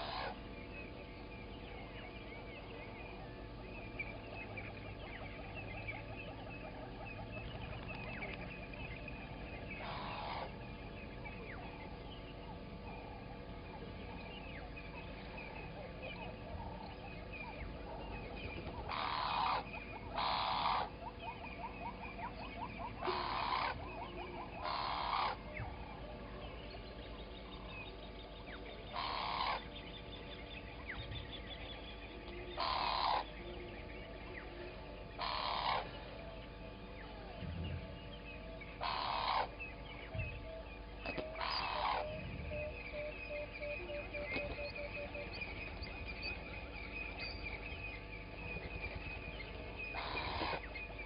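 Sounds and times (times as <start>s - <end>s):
bird harsh calls: 0.0s - 51.0s
faint birdsong chirps and trills: 0.0s - 51.0s.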